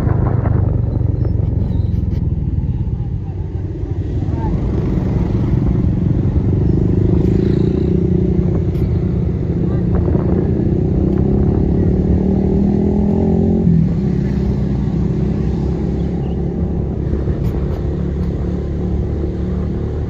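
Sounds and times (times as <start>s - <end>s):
road rumble: 0.0s - 20.0s.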